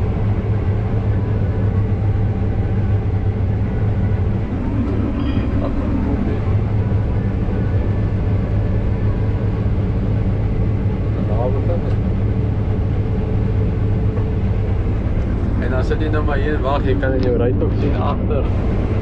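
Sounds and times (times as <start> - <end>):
combine harvester hum: 0.0 - 19.0.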